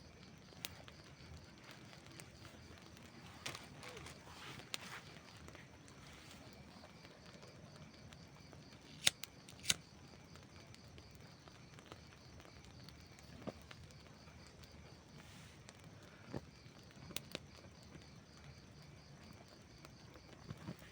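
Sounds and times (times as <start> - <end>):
burning wood crackling: 0.0 - 20.9
campfire hiss: 0.0 - 20.9.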